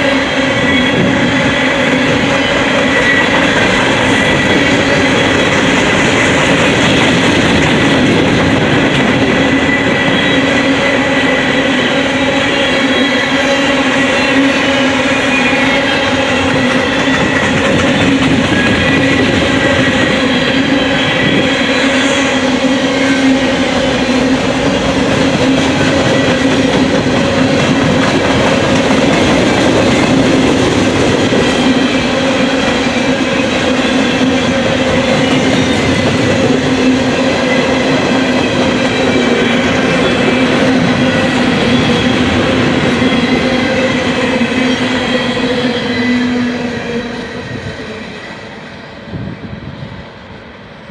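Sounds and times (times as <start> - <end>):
freight train wheels on rails: 0.0 - 50.9.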